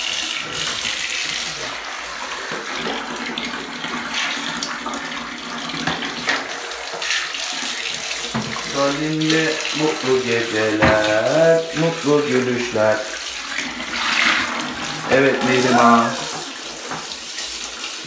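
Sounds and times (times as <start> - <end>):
water running into bathtub: 0.0 - 18.0.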